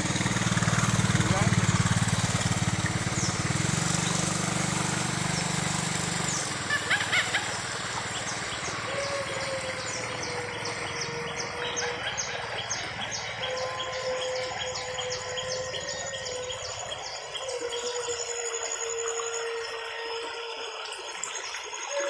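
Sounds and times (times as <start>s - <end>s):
birds calling: 0.0s - 22.0s
motor humming: 0.0s - 22.0s.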